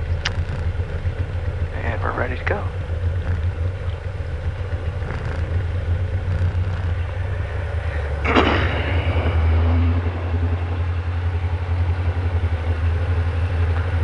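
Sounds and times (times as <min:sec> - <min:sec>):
propeller plane engine running: 0:00.0 - 0:14.0.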